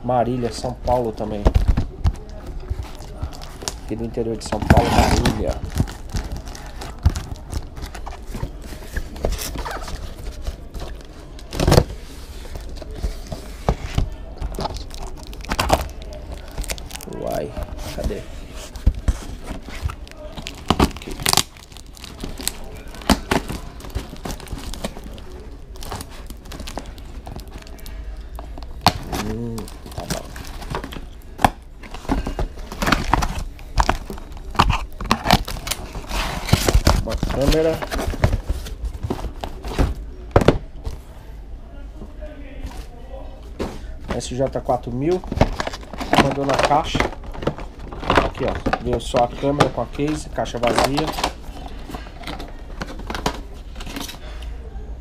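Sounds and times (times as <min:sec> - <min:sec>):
plastic wrapping rustling: 0:00.4 - 0:41.2, 0:42.2 - 0:54.4.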